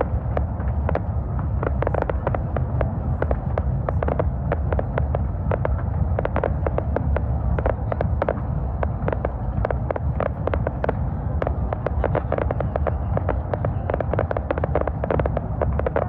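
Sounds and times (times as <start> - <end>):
fireworks crackling: 0.0 - 16.0
low rumble: 0.0 - 16.0.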